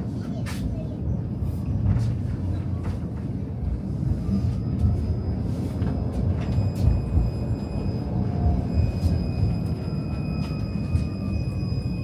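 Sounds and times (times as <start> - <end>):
tram wheels rumbling: 0.0 - 12.0.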